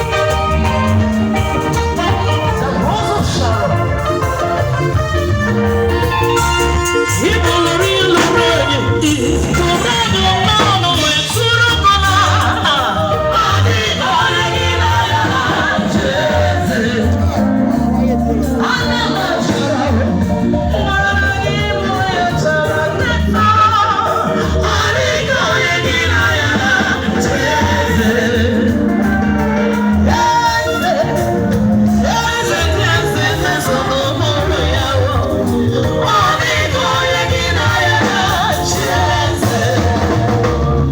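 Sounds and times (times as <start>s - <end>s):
bass guitar line: 0.0s - 40.9s
live band playing upbeat music: 0.0s - 40.9s
people singing: 0.0s - 40.9s.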